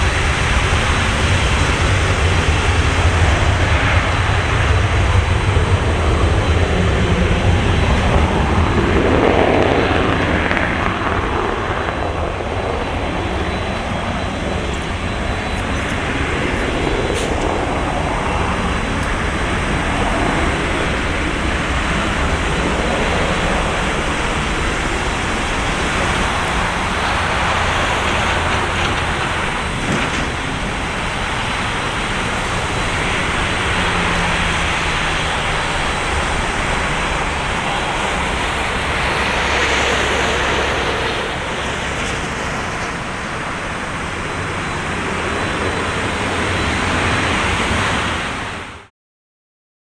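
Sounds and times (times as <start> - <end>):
jet engine rumble on takeoff: 0.0 - 48.9.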